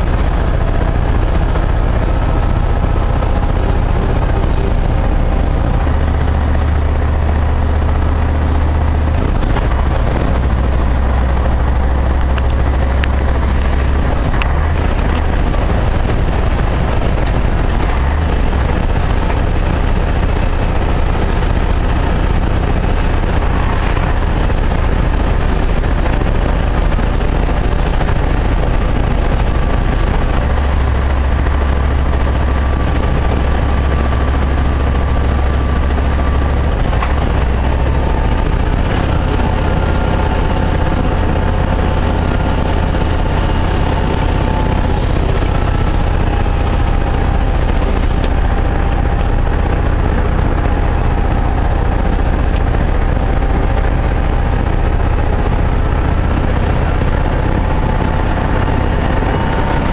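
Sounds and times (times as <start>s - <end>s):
low engine drone: 0.0s - 59.9s
tyre and wind noise: 0.0s - 59.9s.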